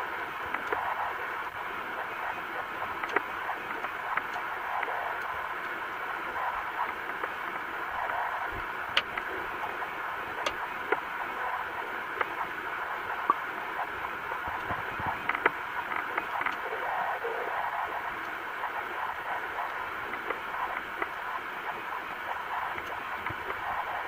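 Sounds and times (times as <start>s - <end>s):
muffled underwater hiss: 0.0s - 24.0s.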